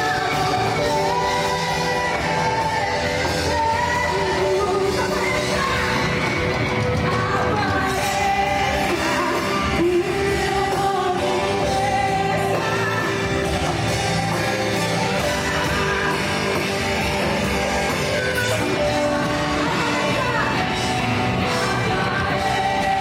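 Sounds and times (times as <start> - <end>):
electric guitar: 0.0 - 23.0
gospel rock band with singing: 0.0 - 23.0.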